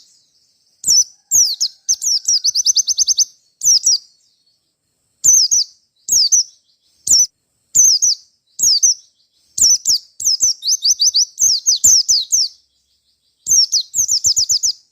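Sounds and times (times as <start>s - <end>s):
white-eye bird singing: 0.0s - 14.9s.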